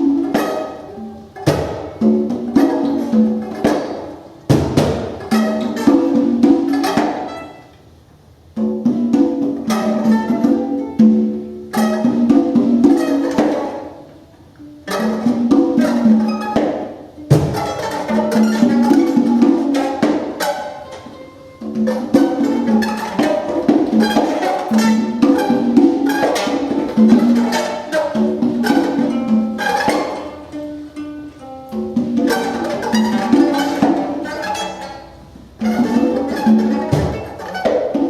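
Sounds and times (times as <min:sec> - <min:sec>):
hand percussion strikes: 0:00.0 - 0:07.9, 0:08.5 - 0:38.0
plucked string notes: 0:00.0 - 0:38.0.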